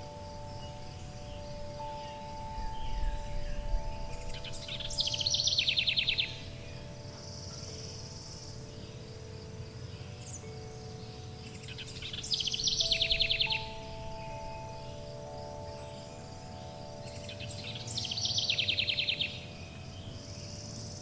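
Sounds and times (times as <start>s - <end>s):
bird trill: 0.0s - 21.0s
faint insect-like buzz: 0.0s - 21.0s
forest birds chirping: 0.0s - 21.0s
wind chimes ringing: 0.0s - 21.0s.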